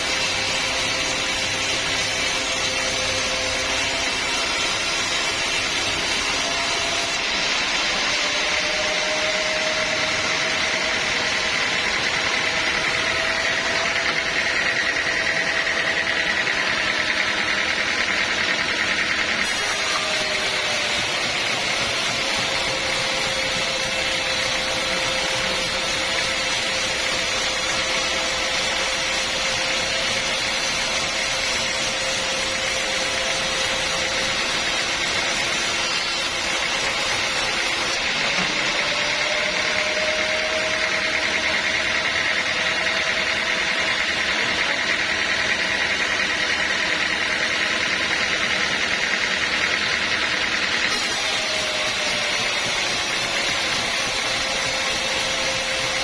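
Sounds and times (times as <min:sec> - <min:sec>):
sawmill saw cutting a log: 0:00.0 - 0:56.0.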